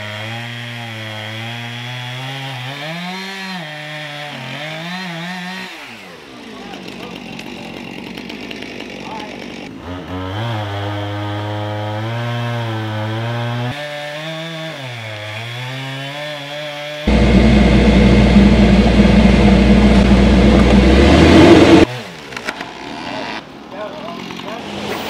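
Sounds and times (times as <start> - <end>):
chainsaw cutting tree: 0.0 - 23.5.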